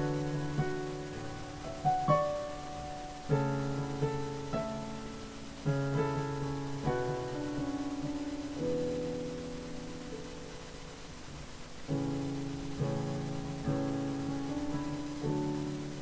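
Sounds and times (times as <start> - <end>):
slow piano chords and melody: 0.0 - 16.0.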